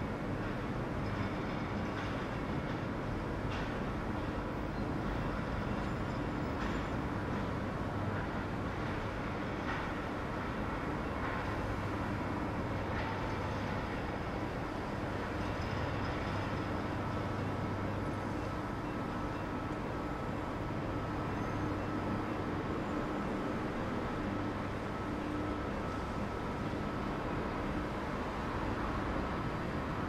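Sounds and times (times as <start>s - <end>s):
model train running hum: 0.0s - 30.0s.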